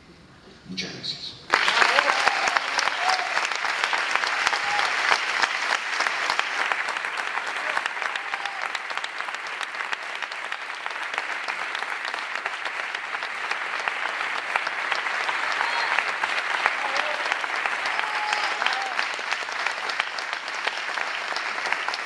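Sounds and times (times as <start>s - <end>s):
large audience applauding: 1.5s - 22.0s.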